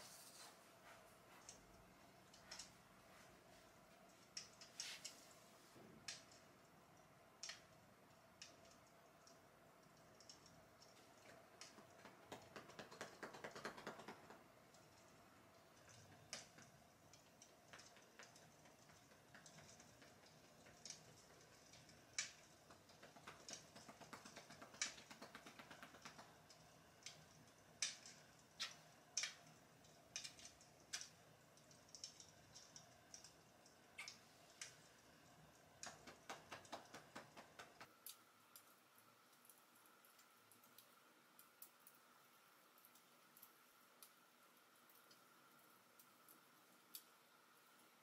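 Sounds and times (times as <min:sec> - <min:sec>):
faint steady hum: 0:00.0 - 0:48.0
faint small clicks and ticks: 0:00.2 - 0:48.0.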